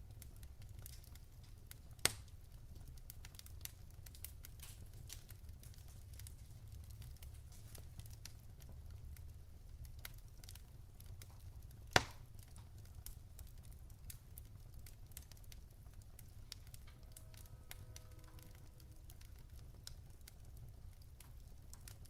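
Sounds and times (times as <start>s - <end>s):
wood fire crackling: 0.0s - 22.0s
fire popping loudly: 0.1s - 22.0s.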